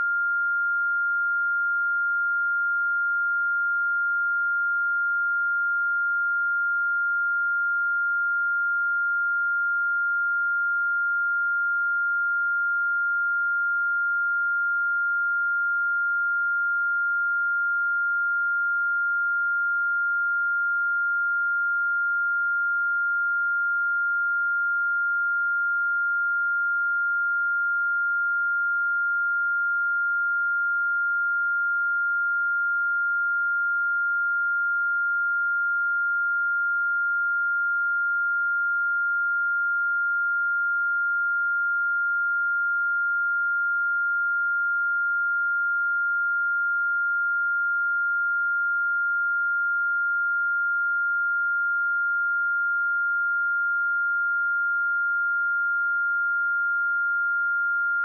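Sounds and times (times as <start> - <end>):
steady sine wave test tone: 0.0 - 58.0.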